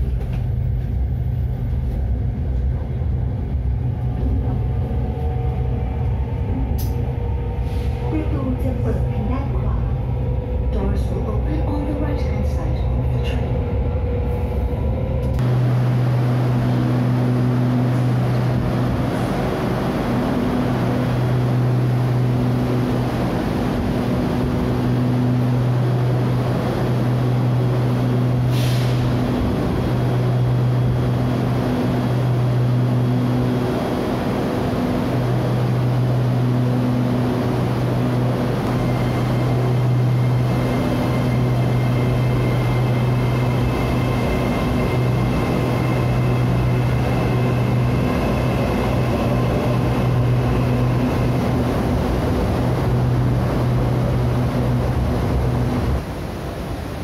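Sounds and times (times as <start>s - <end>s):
electric train humming: 0.0s - 57.0s.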